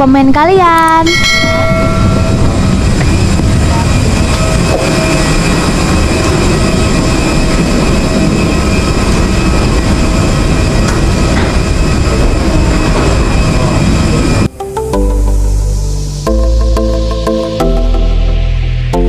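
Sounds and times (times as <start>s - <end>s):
airliner engine rumble: 1.4s - 19.0s.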